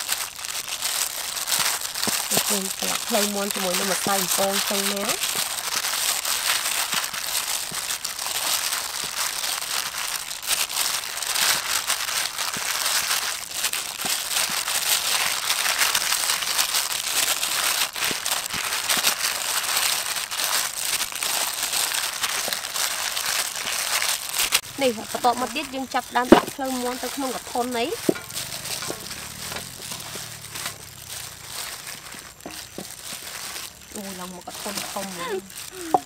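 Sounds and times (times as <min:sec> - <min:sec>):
plastic gloves crinkling: 0:00.0 - 0:36.0.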